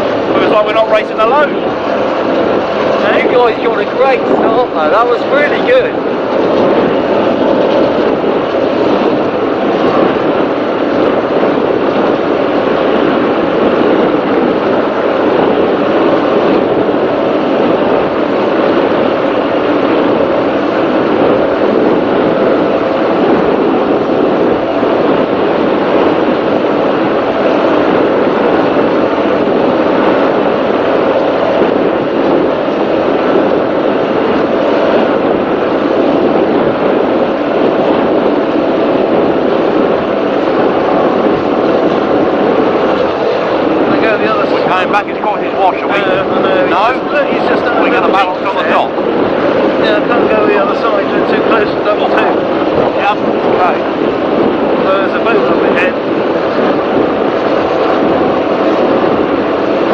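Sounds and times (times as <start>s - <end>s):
powerboat engines running loud: 0.0s - 59.9s.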